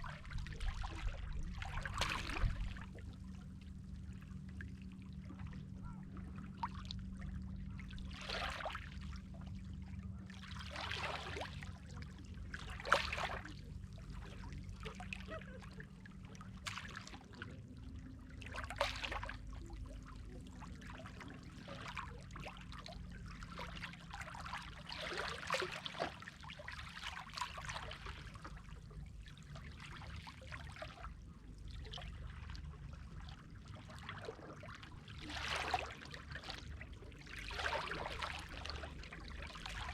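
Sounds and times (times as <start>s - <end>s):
seawater splashing and lapping: 0.0s - 39.9s
steady low hum: 0.0s - 39.9s.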